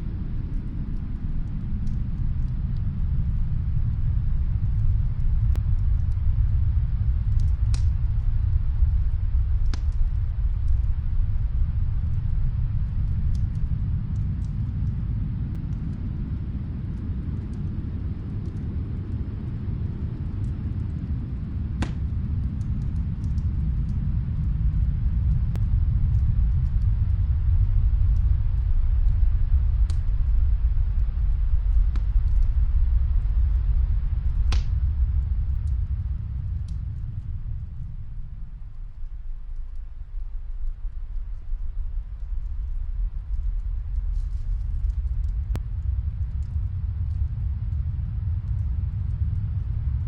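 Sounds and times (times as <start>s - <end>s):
faint fireplace crackles: 0.0s - 50.0s
rumbling storm wind: 0.0s - 50.0s.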